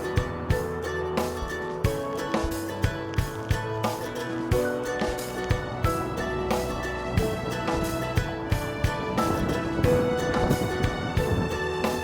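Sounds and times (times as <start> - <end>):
regular drum hits: 0.0 - 12.0
sustained melodic notes: 0.0 - 12.0.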